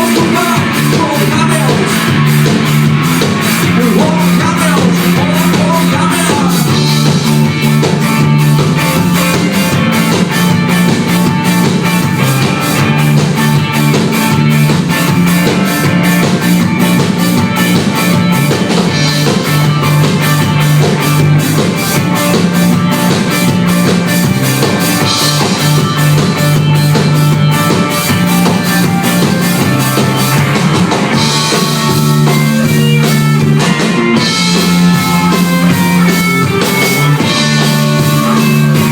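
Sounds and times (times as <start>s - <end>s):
bass line: 0.0s - 38.9s
drum kit beat: 0.0s - 38.9s
electric guitars: 0.0s - 38.9s.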